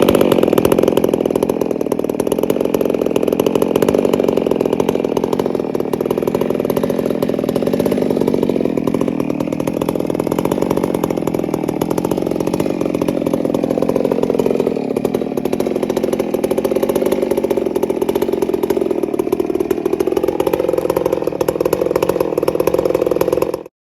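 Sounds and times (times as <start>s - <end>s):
chainsaw engine running: 0.0s - 23.7s.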